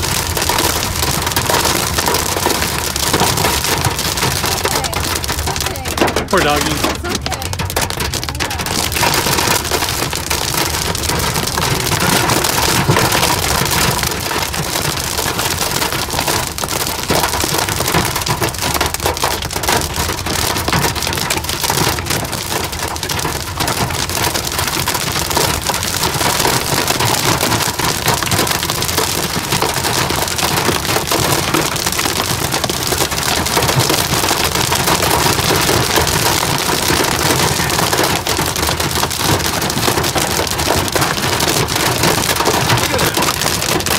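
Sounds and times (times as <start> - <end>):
hail and rain on car roof: 0.0 - 43.9.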